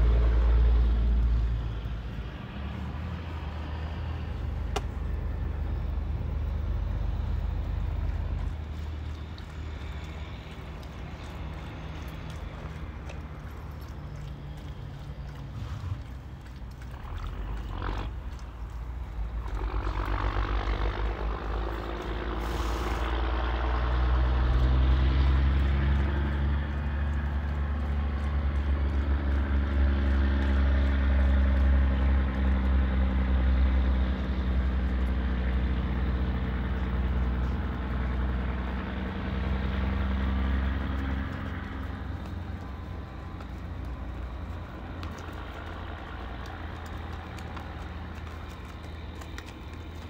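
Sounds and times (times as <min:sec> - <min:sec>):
engine droning: 0:00.0 - 0:50.0.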